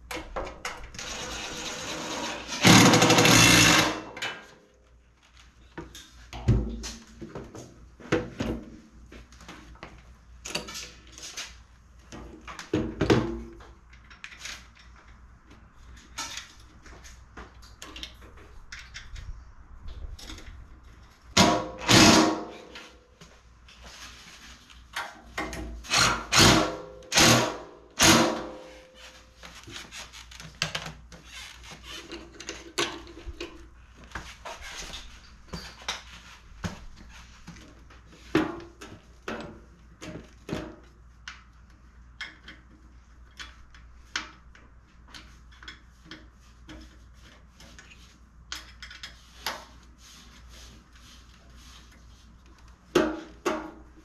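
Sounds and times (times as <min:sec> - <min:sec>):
hand tools and metal parts clattering: 0:00.0 - 0:04.6, 0:09.5 - 0:19.4, 0:20.0 - 0:40.9, 0:42.1 - 0:52.4.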